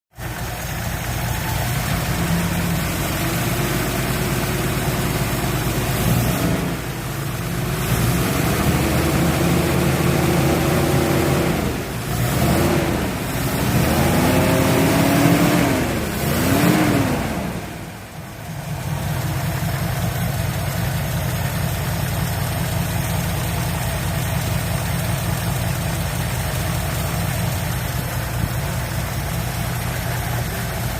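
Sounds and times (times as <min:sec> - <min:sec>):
car engine idling and revving: 0:00.1 - 0:30.9.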